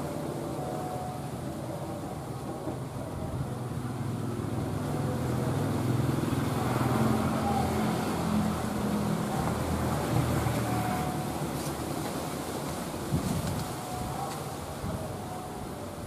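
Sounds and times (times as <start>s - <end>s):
locomotive engine humming: 0.0s - 16.0s.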